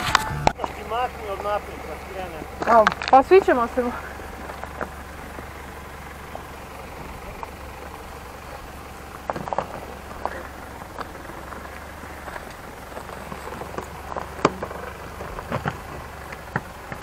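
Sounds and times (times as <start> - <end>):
stones crackling under tyres: 0.0 - 17.0
vehicle engine rumble: 0.0 - 17.0.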